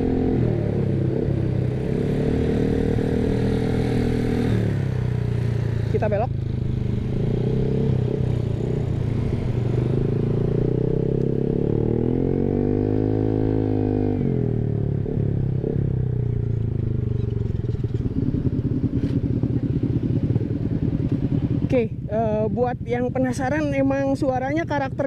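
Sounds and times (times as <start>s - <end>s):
scooter engine revving: 0.0s - 21.8s.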